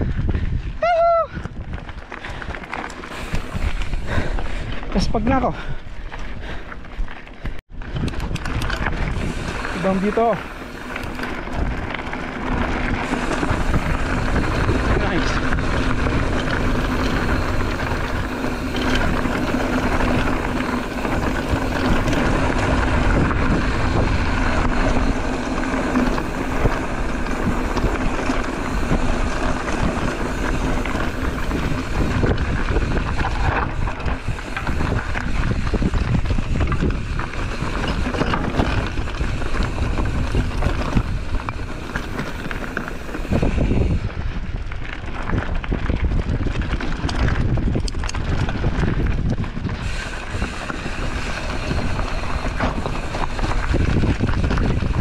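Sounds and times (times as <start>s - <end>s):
bicycle tyre and rattle noise: 0.0s - 55.0s
wind rushing over microphone: 0.0s - 55.0s.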